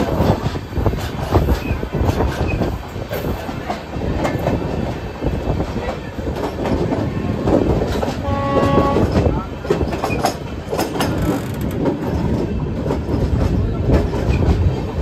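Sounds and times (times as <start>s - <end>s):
train rumbling: 0.0s - 15.0s
wheels clacking over rail joints: 0.0s - 15.0s.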